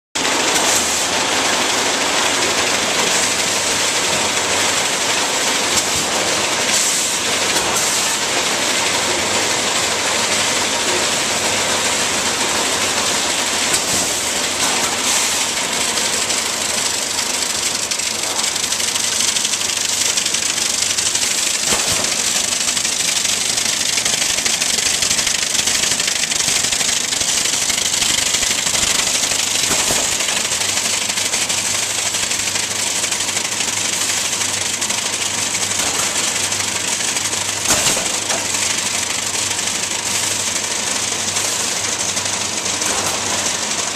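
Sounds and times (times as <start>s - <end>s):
roll-forming machine running: 0.2s - 43.9s.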